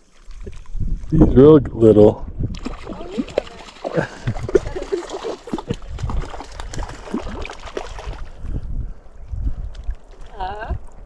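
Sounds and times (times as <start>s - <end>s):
water splashing and dripping: 0.0s - 1.2s, 2.4s - 11.0s.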